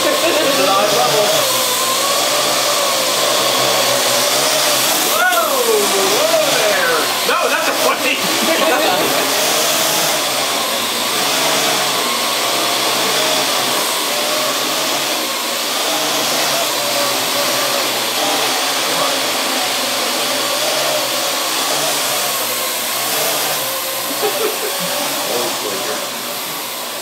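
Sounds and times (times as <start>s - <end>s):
drone propellers whirring: 0.0s - 27.0s.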